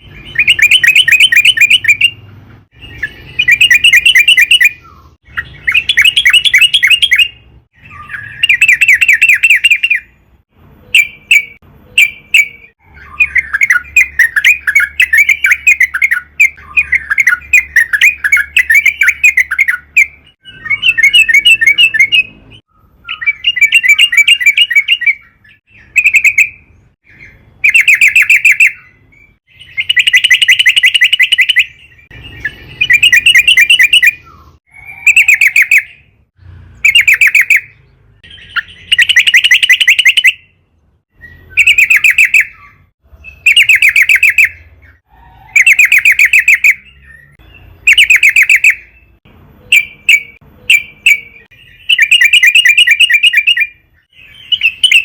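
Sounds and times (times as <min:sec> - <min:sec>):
bird singing bubbly chattering phrases: 0:00.0 - 0:10.1, 0:10.9 - 0:36.0, 0:36.8 - 0:40.5, 0:41.2 - 0:55.0.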